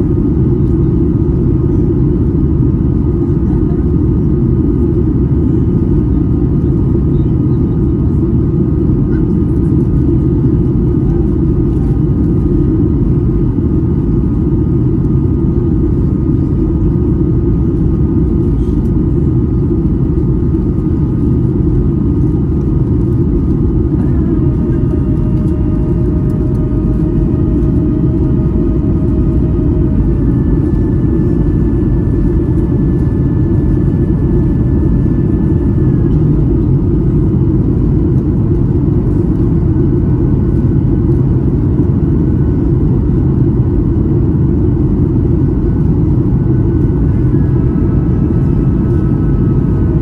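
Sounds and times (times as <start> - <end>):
airplane cabin engine rumble: 0.0 - 50.0
high steady whine: 0.0 - 50.0.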